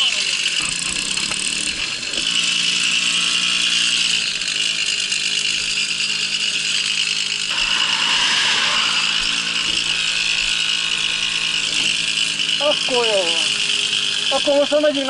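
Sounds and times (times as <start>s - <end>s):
moped engine running: 0.0s - 15.0s.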